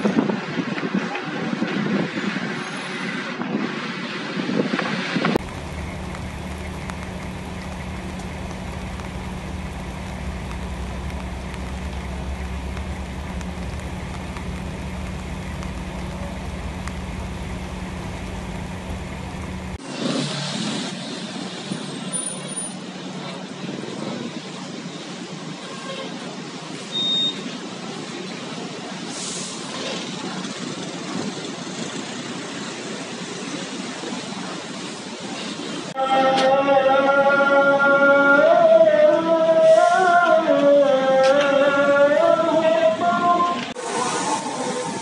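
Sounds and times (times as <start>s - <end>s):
traffic on wet street: 0.0s - 45.0s.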